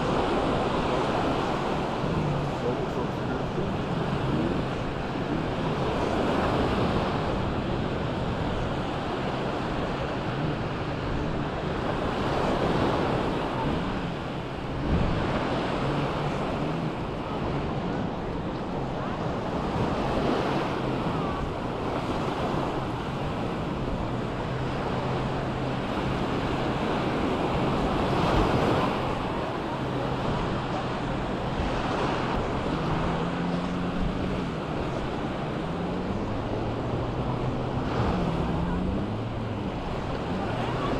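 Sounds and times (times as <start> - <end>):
small waves breaking on shore: 0.0 - 40.9
wind rumbling on microphone: 0.0 - 40.9.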